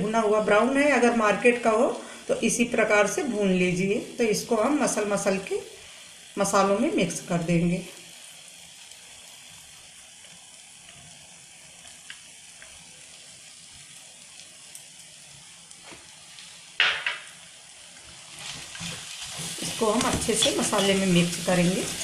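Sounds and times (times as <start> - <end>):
gravy sizzling in a pan: 0.0 - 22.0.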